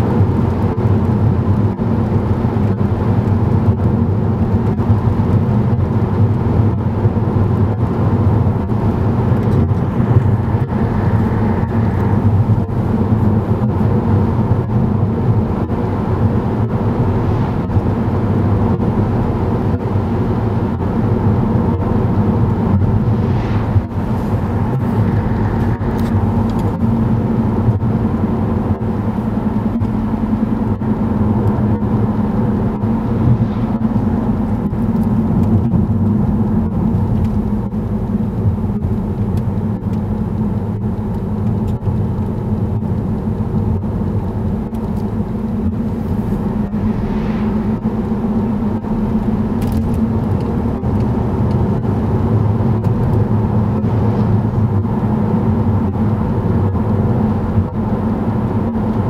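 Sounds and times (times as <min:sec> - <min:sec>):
car cabin road and engine noise: 0:00.0 - 0:59.0.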